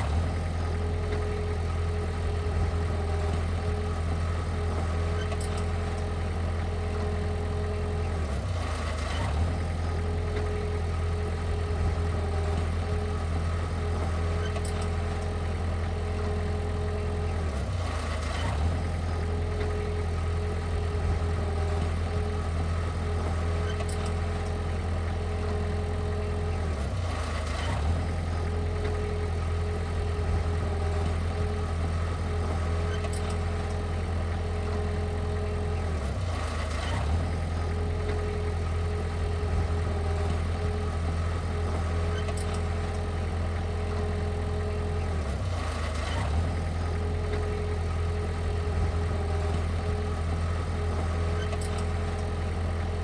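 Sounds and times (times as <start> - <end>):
heavy diesel engine idling: 0.0 - 53.0.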